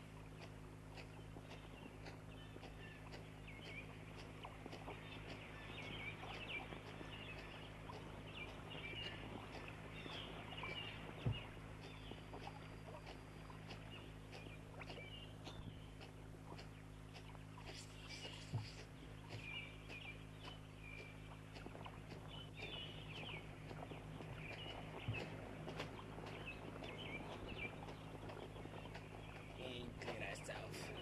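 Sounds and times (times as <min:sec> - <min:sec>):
birds chirping and twittering: 0:00.0 - 0:31.0
steady low hum: 0:00.0 - 0:31.0.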